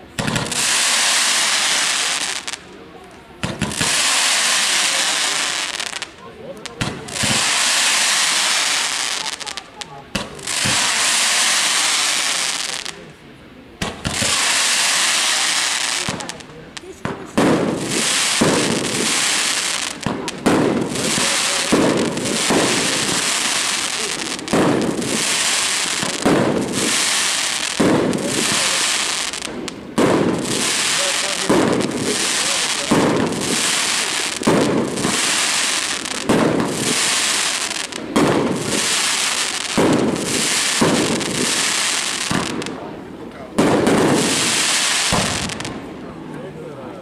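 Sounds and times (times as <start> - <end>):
fireworks bangs: 0.0 - 47.0
fireworks crackle: 0.0 - 47.0.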